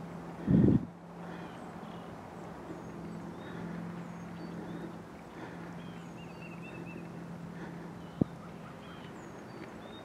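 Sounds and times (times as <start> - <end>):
distant diesel locomotive hum: 0.0 - 10.0
small birds chirping and trilling: 0.0 - 10.0.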